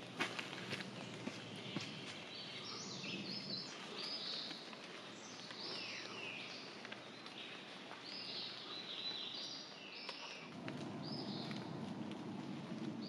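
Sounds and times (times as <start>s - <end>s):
steady outdoor hiss: 0.0s - 13.0s
birds chirping and whistling: 0.9s - 4.5s, 5.1s - 12.0s.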